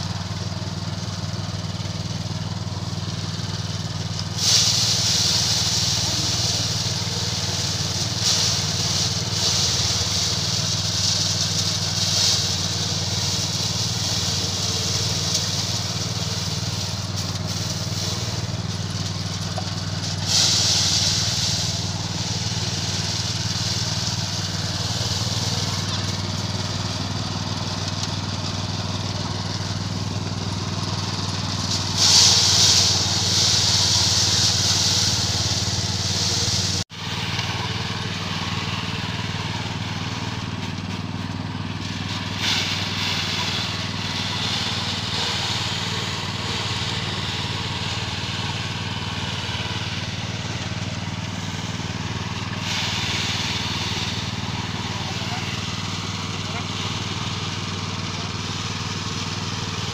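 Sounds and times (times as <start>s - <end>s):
small petrol engine running: 0.0s - 59.9s
threshing drum hissing: 0.0s - 59.9s.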